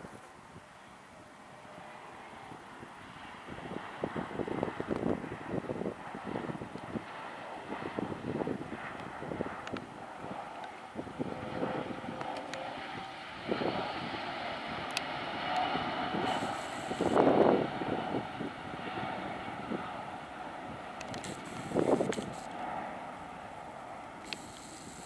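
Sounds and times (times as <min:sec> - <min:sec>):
jet engines rumbling rush: 0:00.6 - 0:25.0.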